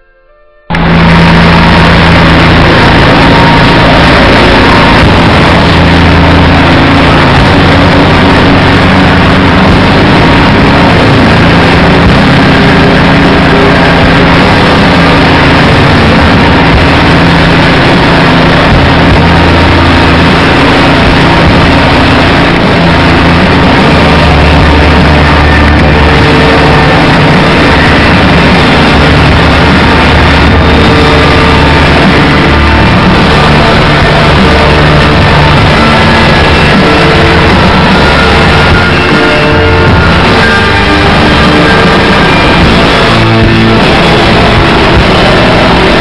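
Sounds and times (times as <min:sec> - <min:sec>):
heavy engines droning: 0:00.7 - 0:46.0
loud dense hiss: 0:00.7 - 0:46.0.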